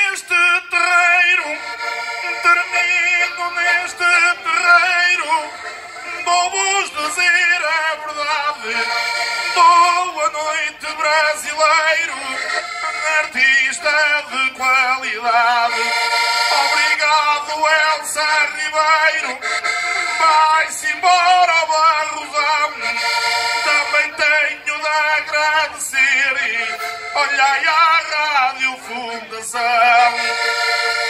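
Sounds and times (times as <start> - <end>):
man singing through pa: 0.0 - 1.7, 2.4 - 19.5, 20.1 - 30.4
accordion: 0.0 - 31.0.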